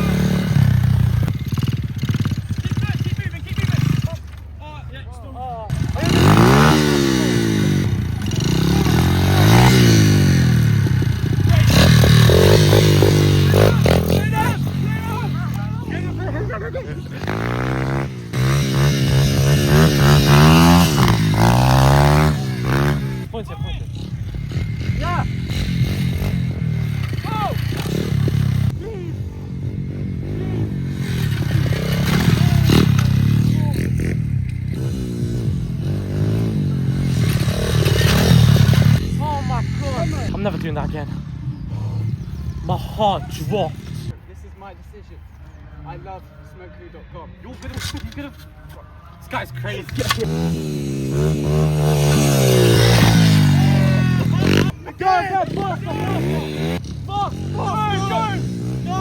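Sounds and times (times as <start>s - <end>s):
pit bike engine revving: 0.0s - 4.6s, 5.7s - 44.2s, 49.7s - 59.0s.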